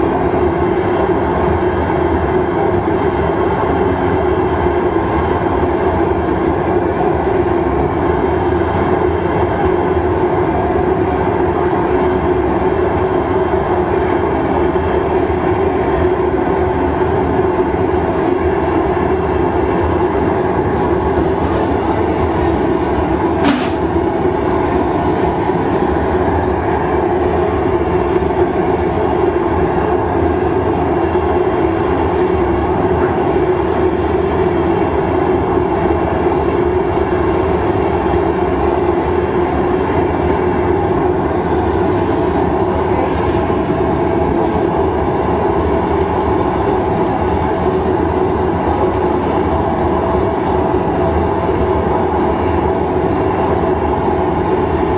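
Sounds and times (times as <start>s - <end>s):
gas furnace burners roaring: 0.0s - 54.9s.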